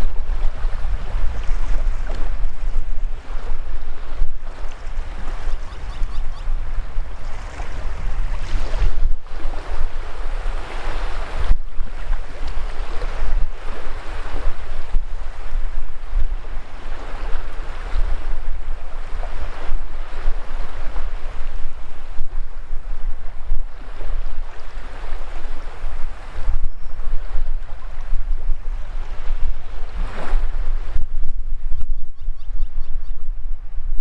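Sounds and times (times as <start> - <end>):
surf washing over sand: 0.0 - 31.9
wind rumble on microphone: 0.0 - 34.0.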